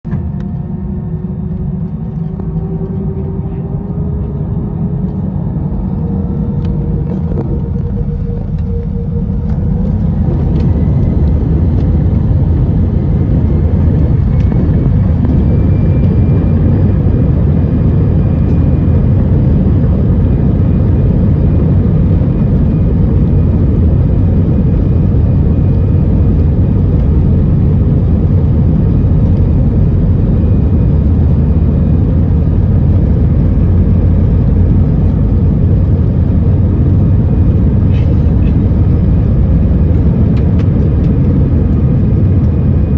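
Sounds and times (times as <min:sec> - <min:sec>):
jet engines spooling up: 0:00.1 - 0:42.9.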